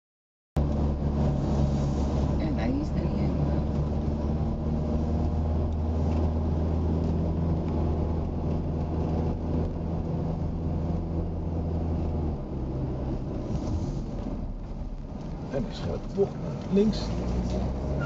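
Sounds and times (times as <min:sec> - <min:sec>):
car engine drone from inside: 0:00.6 - 0:18.0
road noise: 0:00.6 - 0:18.0.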